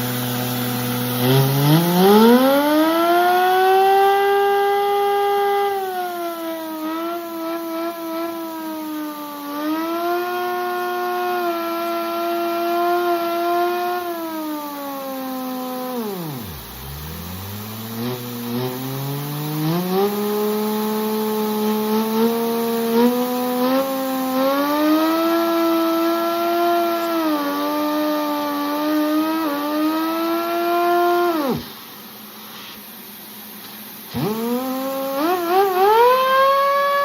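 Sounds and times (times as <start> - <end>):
engine whining: 0.0 - 37.0.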